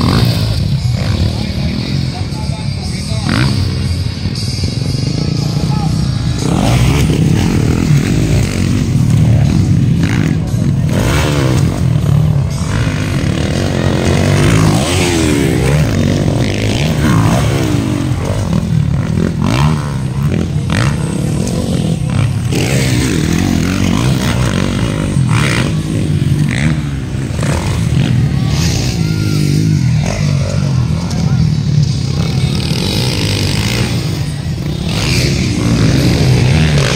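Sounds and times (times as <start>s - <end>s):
dirt bike engines revving: 0.0s - 36.9s.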